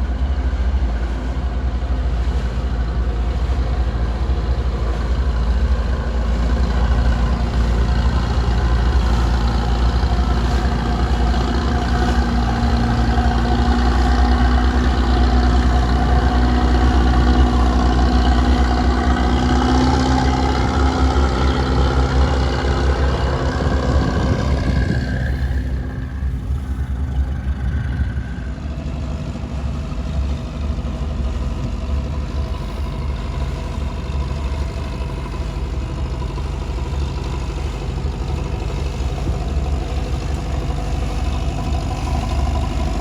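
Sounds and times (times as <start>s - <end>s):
boat diesel engines droning: 0.0s - 43.0s.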